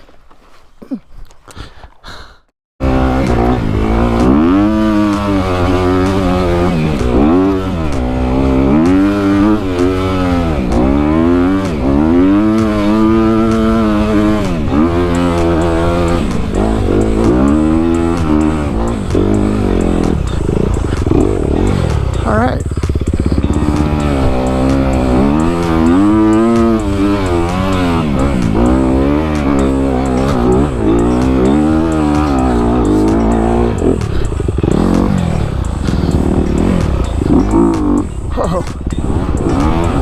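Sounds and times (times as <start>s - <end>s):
dirt bike engine revving: 2.8s - 40.0s.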